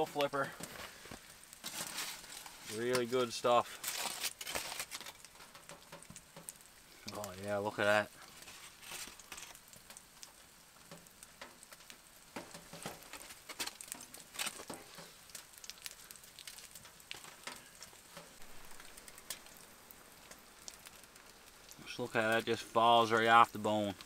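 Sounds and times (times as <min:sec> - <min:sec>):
tin foil crinkling: 0:00.0 - 0:07.4, 0:08.2 - 0:24.0
fish cakes sizzling in a pan: 0:00.0 - 0:24.0.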